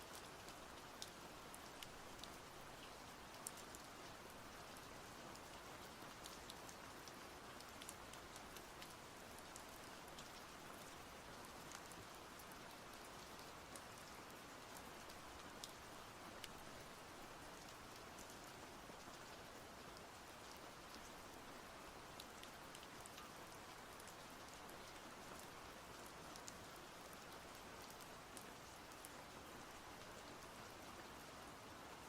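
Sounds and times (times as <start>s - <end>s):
soft rain: 0.0s - 32.0s.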